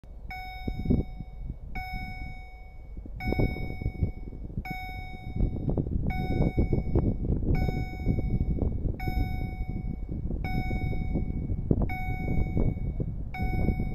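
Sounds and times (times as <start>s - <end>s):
level crossing warning beeps: 0.2s - 13.9s.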